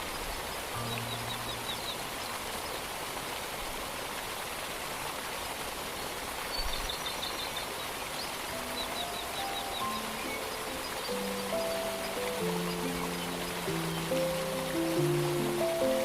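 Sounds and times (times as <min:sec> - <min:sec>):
distant waterfall rushing: 0:00.0 - 0:16.0.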